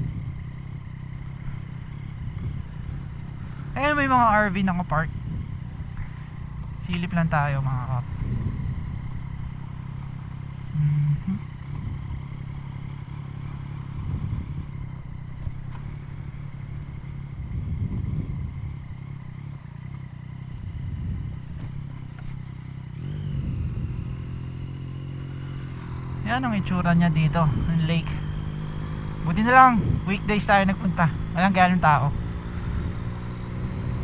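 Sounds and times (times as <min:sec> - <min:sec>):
motorcycle engine at low revs: 0:00.0 - 0:34.0.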